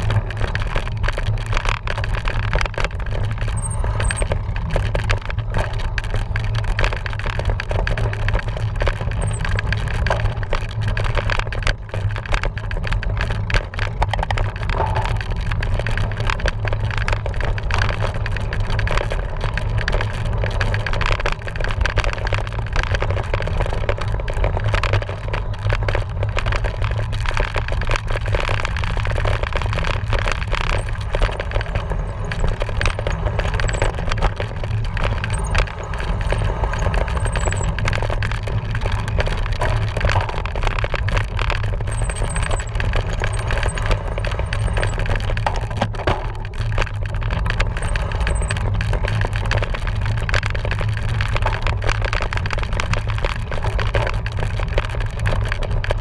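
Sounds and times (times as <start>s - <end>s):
wind and tyre rumble: 0.0s - 56.0s.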